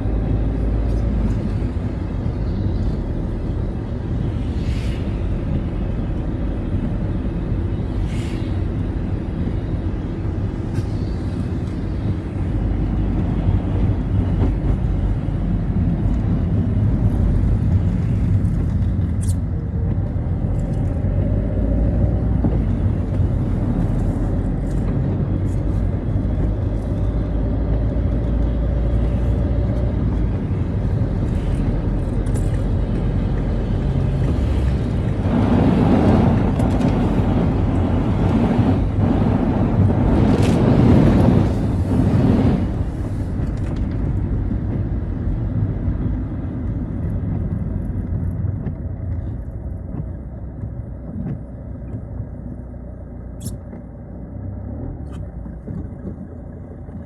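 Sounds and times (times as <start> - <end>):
car engine rumble: 0.0 - 57.0
tyre noise on wet road: 0.0 - 57.0.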